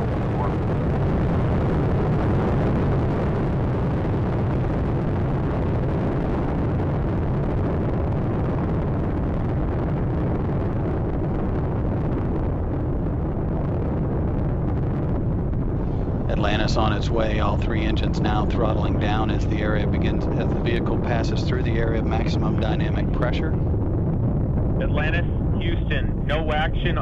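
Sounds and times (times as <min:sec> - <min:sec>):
rocket engines roaring: 0:00.0 - 0:27.0.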